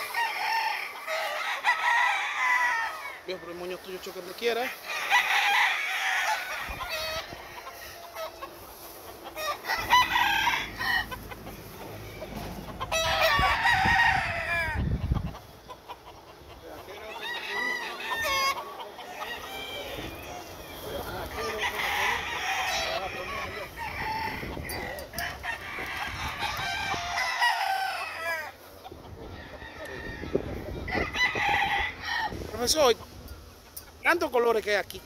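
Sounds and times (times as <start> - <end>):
roosters crowing: 0.0 - 35.0
chickens clucking: 2.9 - 35.0.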